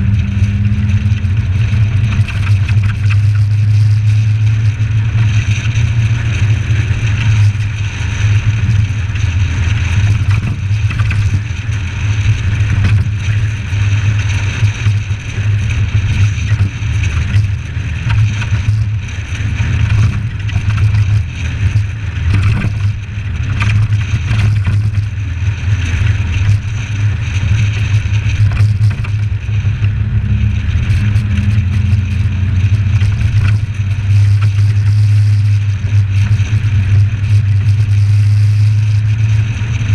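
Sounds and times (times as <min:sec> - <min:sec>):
muffled engine and road drone: 0:00.0 - 0:39.9.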